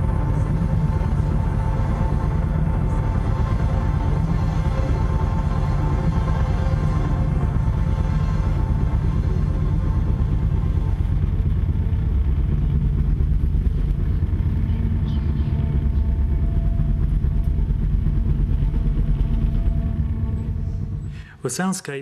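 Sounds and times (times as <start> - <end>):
deep rumbling drone: 0.0 - 21.5.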